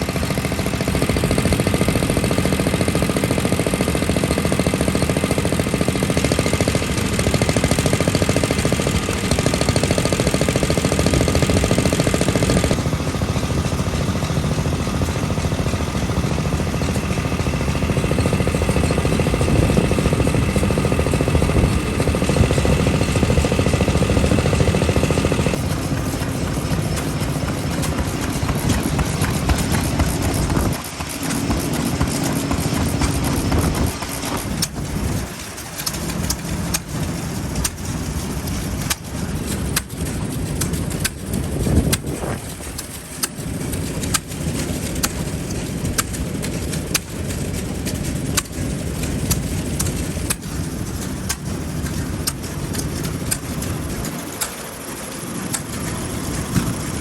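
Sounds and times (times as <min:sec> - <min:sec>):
sharp exhaust pops: 0:00.0 - 0:57.0
stationary engines running: 0:00.0 - 0:57.0.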